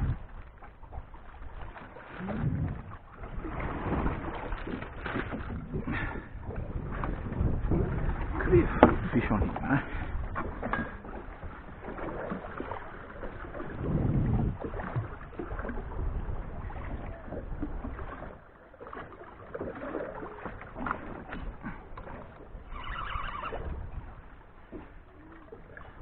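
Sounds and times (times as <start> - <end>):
wind buffeting microphone: 0.0 - 18.6, 19.4 - 26.0
water against boat hull: 0.0 - 26.0.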